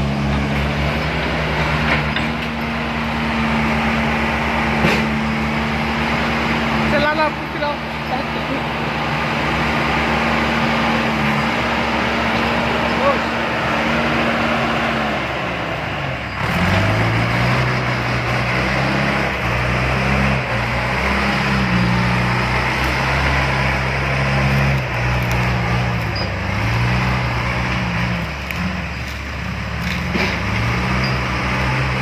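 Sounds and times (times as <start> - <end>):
diesel engine under load: 0.0 - 32.0.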